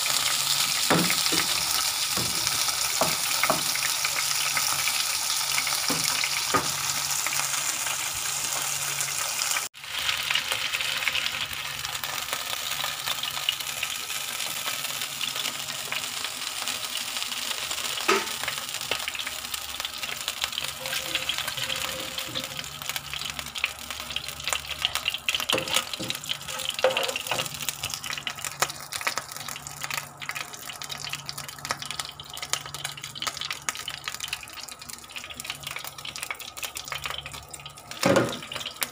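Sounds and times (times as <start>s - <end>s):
oil sizzling in a frying pan: 0.0s - 38.9s.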